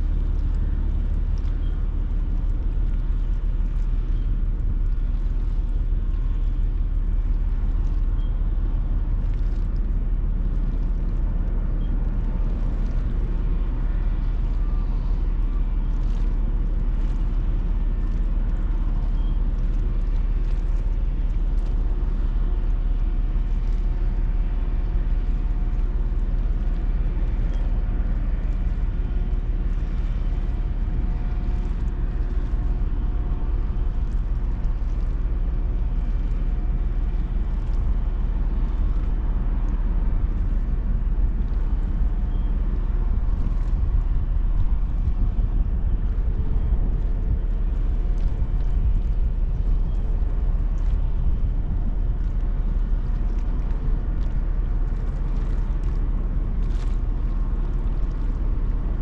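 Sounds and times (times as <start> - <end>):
ferry machinery low rumble: 0.0 - 59.0.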